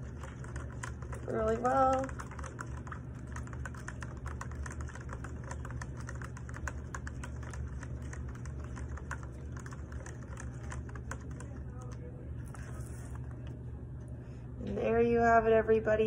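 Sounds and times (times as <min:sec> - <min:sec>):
spoon stirring in plastic cup: 0:00.0 - 0:13.6
steady low hum: 0:00.0 - 0:16.0.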